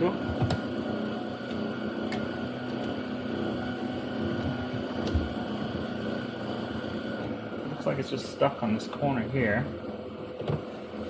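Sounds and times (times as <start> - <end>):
cooling fan humming: 0.0 - 11.0.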